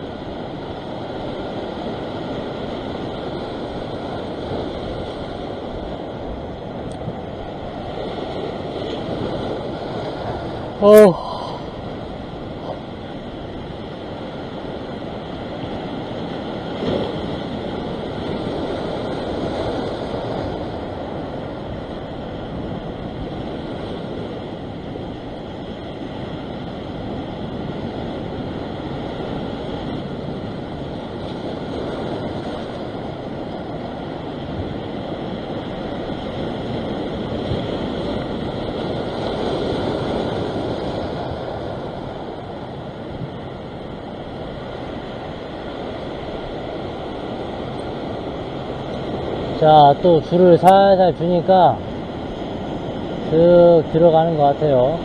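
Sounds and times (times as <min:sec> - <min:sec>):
ocean surf breaking on rock: 0:00.0 - 0:55.0.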